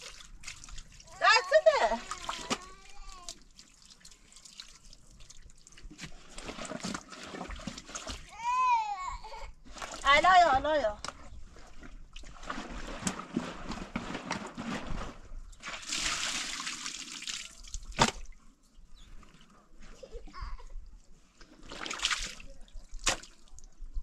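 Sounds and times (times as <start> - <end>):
water splashing and sloshing: 0.0 - 8.6, 9.6 - 24.0.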